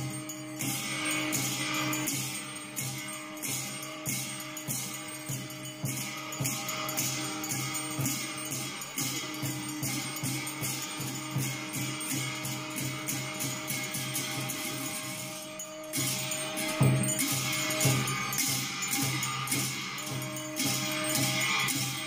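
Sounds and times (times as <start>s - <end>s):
jingling rattling percussion: 0.0s - 22.0s.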